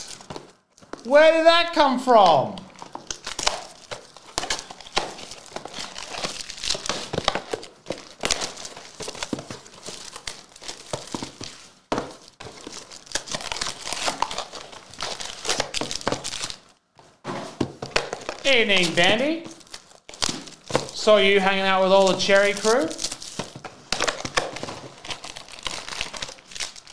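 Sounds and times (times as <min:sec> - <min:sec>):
wrappers crinkling and tearing: 0:00.0 - 0:01.1, 0:02.5 - 0:16.8, 0:17.9 - 0:26.9.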